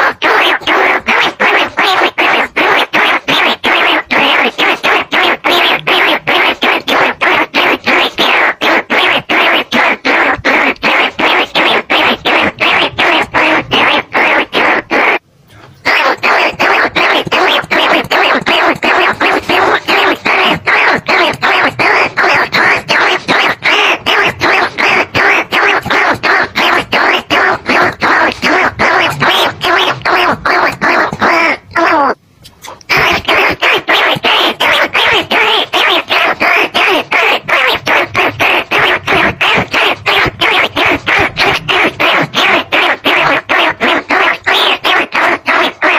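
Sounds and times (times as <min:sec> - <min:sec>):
rapid squeaking calls: 0:00.0 - 0:15.2, 0:15.8 - 0:45.9.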